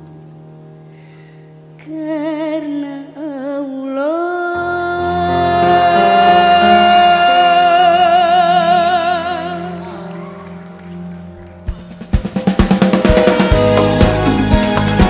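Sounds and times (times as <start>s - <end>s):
sustained backing chords: 0.0s - 15.0s.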